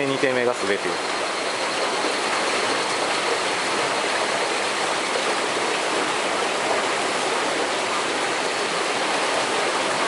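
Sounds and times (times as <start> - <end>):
stream water flowing: 0.0 - 10.0.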